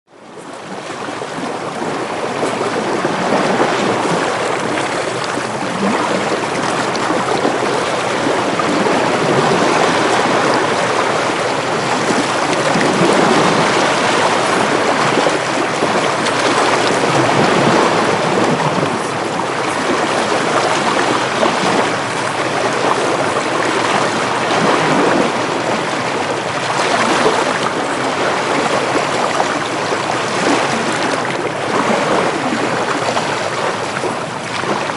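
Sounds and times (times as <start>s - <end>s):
wind: 0.0s - 34.9s
ocean waves washing in: 0.1s - 34.9s.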